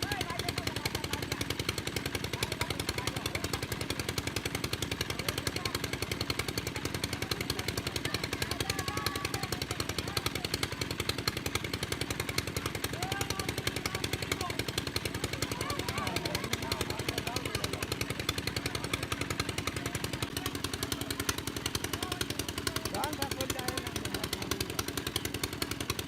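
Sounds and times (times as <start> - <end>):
engine-driven water pump chugging: 0.0 - 26.0.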